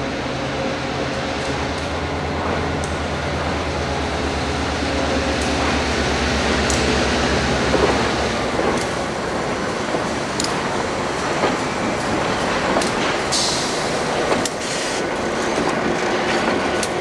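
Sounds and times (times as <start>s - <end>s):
diesel locomotive engines rumbling: 0.0s - 17.0s.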